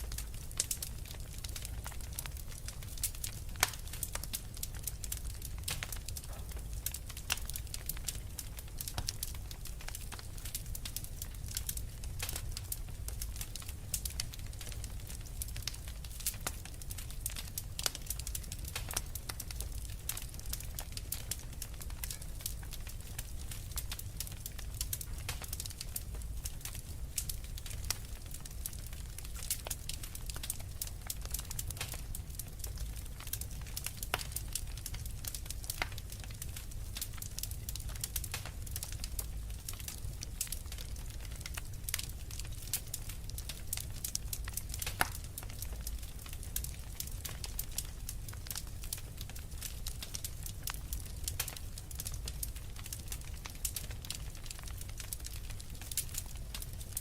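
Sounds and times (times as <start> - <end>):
low rumble of burning logs: 0.0 - 57.0
wood fire crackling: 0.0 - 57.0.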